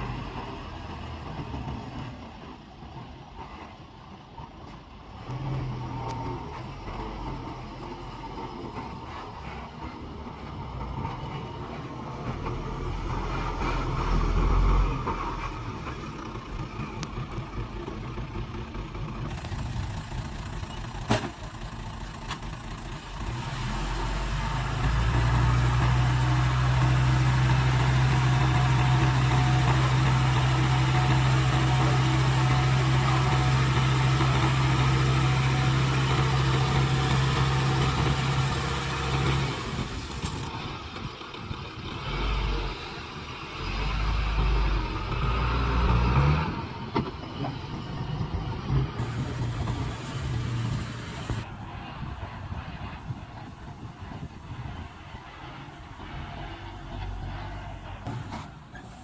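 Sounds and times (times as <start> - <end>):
heavy engine droning: 0.0 - 59.0.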